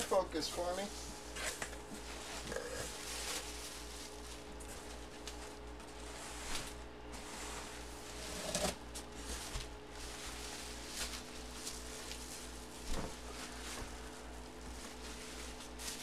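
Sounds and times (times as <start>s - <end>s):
bubble wrap rustling and crinkling: 1.4s - 16.0s.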